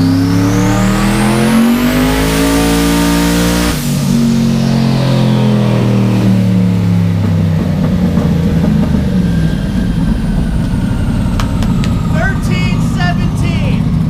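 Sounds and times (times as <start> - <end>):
race car engine coasting down: 0.0 - 14.0.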